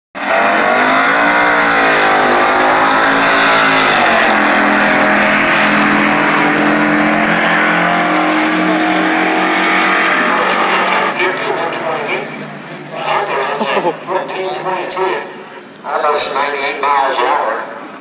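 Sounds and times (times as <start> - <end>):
race car engine running hard: 0.2 - 18.0.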